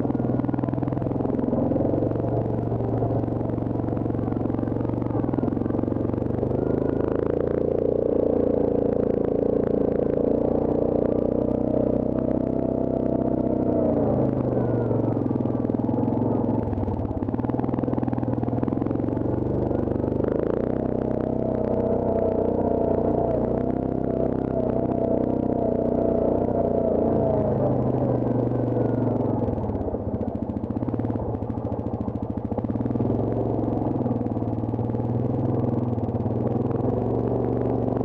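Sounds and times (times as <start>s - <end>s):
quad bike engine revving: 0.0s - 38.0s.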